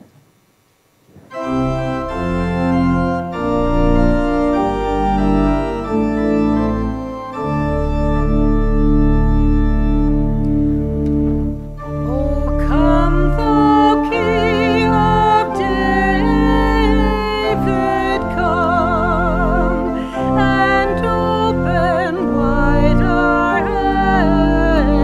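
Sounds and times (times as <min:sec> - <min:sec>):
church organ playing chords: 0:01.3 - 0:25.0.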